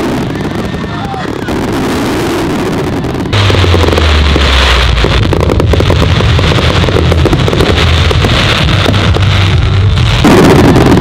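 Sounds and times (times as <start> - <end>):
fireworks crackling: 0.0 - 11.0
fireworks low rumble: 0.0 - 11.0.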